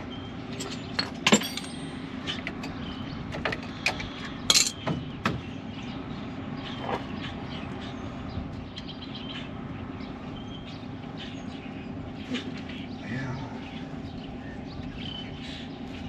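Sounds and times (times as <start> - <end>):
birds chirping: 0.0 - 16.0
low mechanical hum: 0.0 - 16.0.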